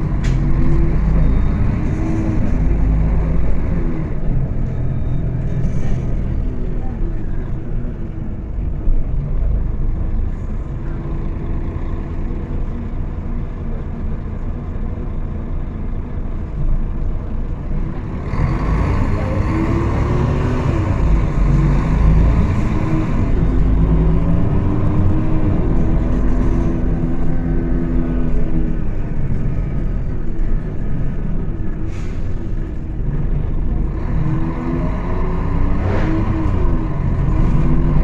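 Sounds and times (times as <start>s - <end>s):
bus diesel engine revving: 0.0s - 13.6s, 17.0s - 38.0s.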